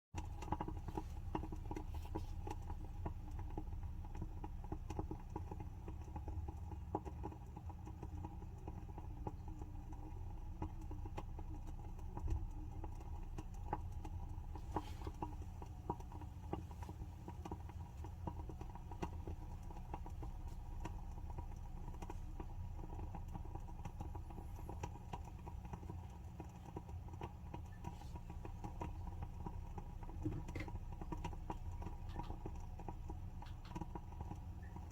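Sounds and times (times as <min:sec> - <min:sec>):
steady low hum: 0:00.2 - 0:34.9
wooden wick crackling: 0:00.2 - 0:34.9.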